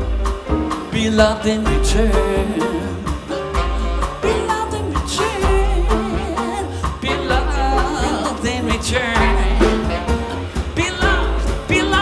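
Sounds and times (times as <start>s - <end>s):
double bass low notes: 0.0s - 12.0s
jazz band playing: 0.0s - 12.0s.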